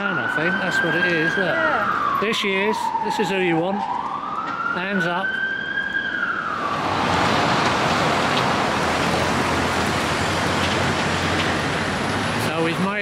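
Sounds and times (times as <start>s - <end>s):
busy city traffic: 0.0s - 13.0s
police siren wailing: 0.0s - 13.0s.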